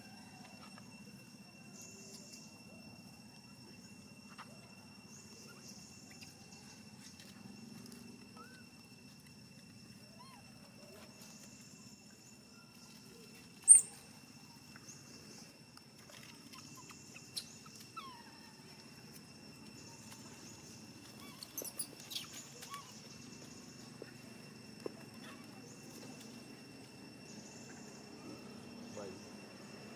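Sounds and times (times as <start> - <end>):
faint chirps: 0.0 - 29.9.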